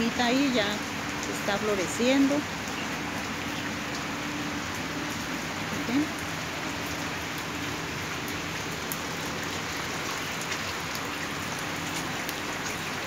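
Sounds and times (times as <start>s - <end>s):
heavy rain on plants and paving: 0.0s - 13.0s.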